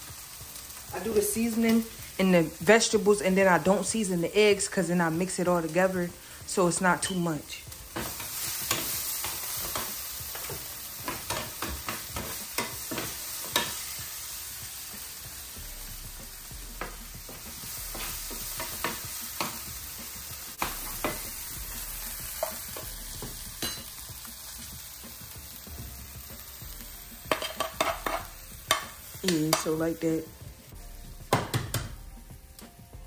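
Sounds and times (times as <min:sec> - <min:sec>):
vegetables sizzling in frying pan: 0:00.0 - 0:32.5.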